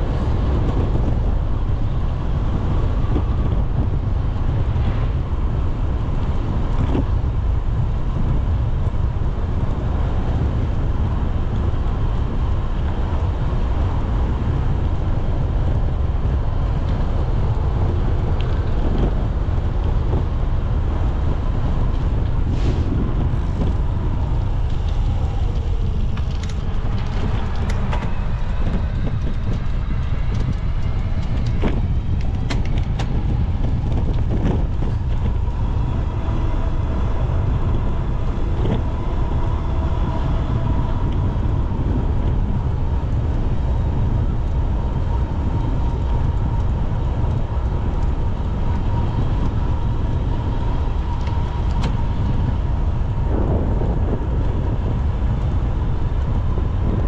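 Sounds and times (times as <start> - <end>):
city traffic noise: 0.0 - 57.0
wind rumbling on microphone: 0.0 - 57.0
thin steady whine: 10.9 - 57.0.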